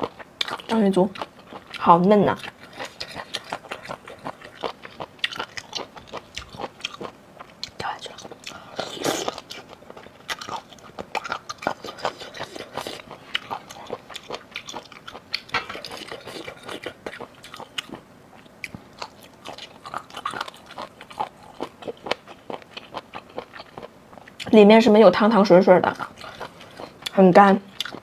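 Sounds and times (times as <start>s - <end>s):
person chewing food: 0.0s - 24.5s, 26.0s - 28.0s.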